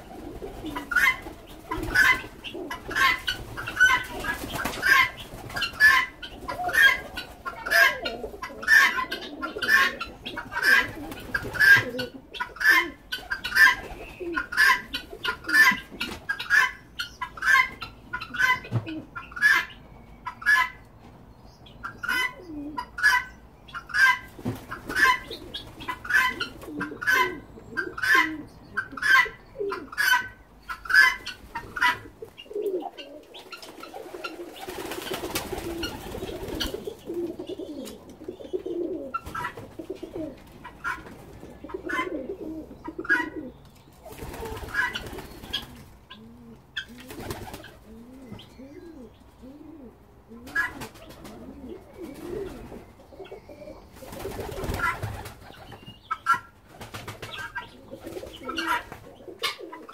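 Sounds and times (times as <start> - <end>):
pigeons cooing: 0.0 - 20.8, 21.6 - 59.9
guineafowl calling harshly: 0.4 - 20.9, 21.8 - 43.6, 44.2 - 49.1, 50.4 - 51.0, 52.0 - 56.6, 57.2 - 59.9.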